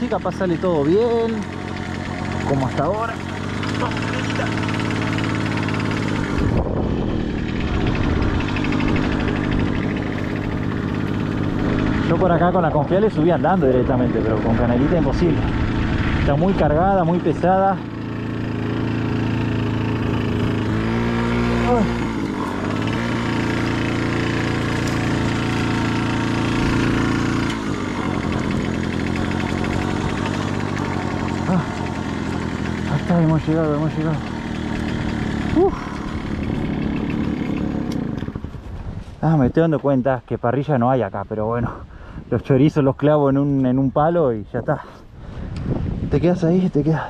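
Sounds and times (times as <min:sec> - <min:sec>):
small motorcycle engine running: 0:00.0 - 0:39.6.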